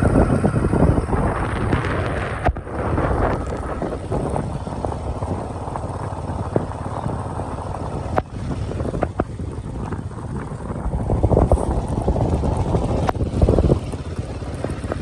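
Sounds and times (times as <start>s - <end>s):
vehicle rumble on rough road: 0.0s - 15.0s
wind buffeting microphone: 0.0s - 15.0s.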